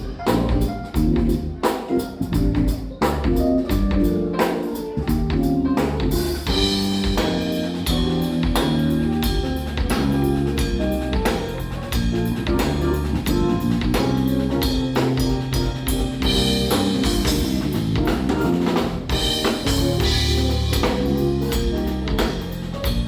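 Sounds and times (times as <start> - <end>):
bass notes: 0.0 - 23.0
keyboard chords: 0.0 - 23.0
snare and bass drum beat: 0.0 - 23.0.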